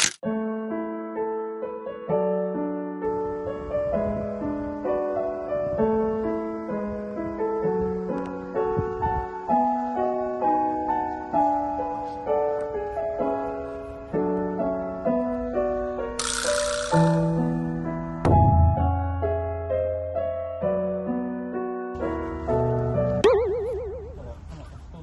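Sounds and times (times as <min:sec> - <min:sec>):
gentle piano melody: 0:00.2 - 0:24.2.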